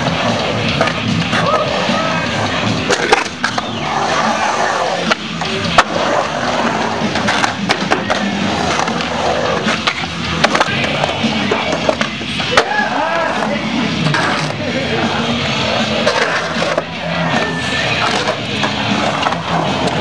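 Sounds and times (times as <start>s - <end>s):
music: 0.0s - 20.0s
skateboard wheels rolling on concrete: 0.0s - 20.0s.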